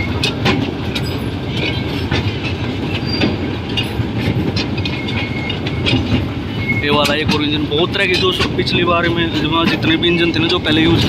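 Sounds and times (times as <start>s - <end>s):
wheels clicking over rails: 0.0s - 11.0s.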